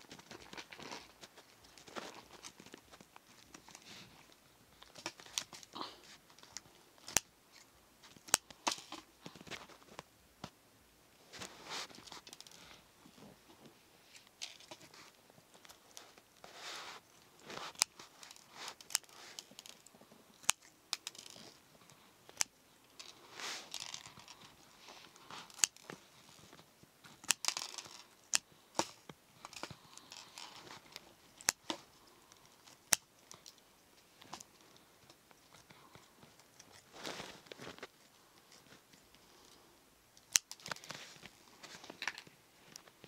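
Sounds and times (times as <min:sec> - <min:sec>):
rustling and crinkling: 0:00.0 - 0:10.6, 0:11.2 - 0:43.0.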